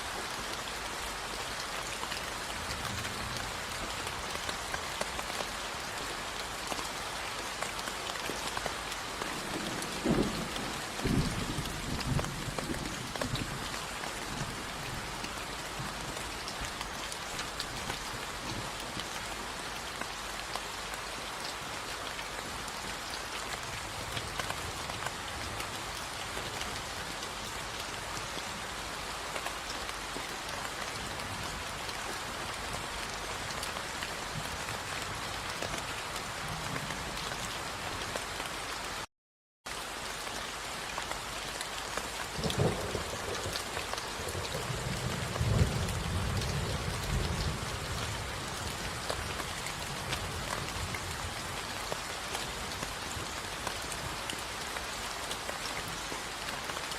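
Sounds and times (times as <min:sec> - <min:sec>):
rain falling on a surface: 0:00.0 - 0:39.1, 0:39.7 - 0:56.9.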